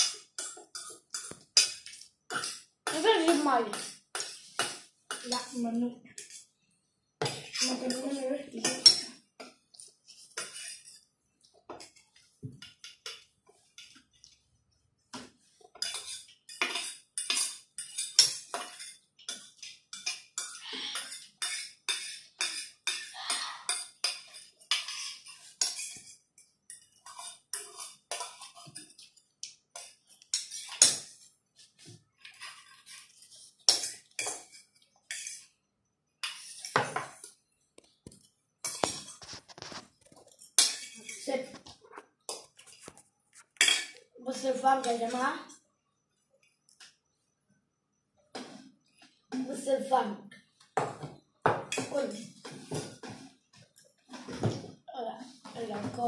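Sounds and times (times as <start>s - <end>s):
cutlery clinking on metal bowls: 0.0s - 6.6s, 7.2s - 14.4s, 15.1s - 35.6s, 36.2s - 45.6s, 50.3s - 54.8s.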